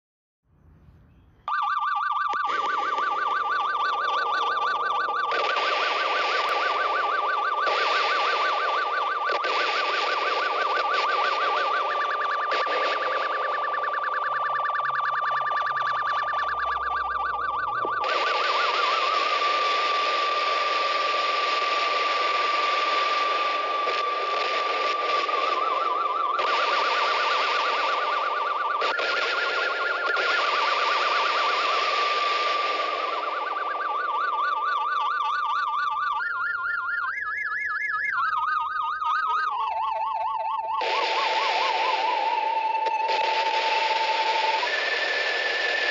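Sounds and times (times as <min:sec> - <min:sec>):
high electronic tone wobbling: 0:01.5 - 0:45.9.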